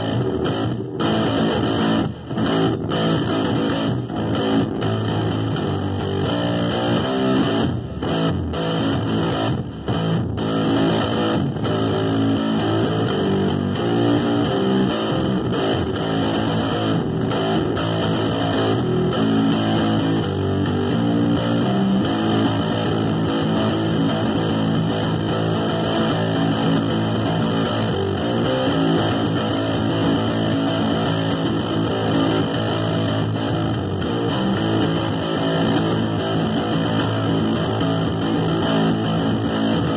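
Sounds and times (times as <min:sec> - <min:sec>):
electric bass guitar: 0:00.0 - 0:39.9.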